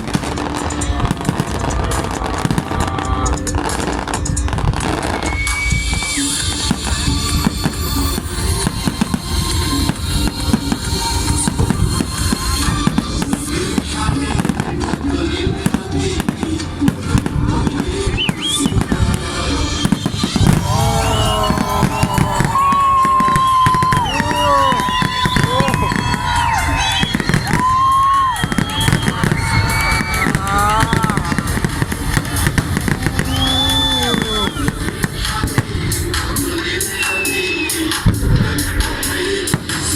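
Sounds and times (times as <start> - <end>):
fireworks exploding: 0.0 - 39.9
melody of sliding notes: 0.0 - 39.9.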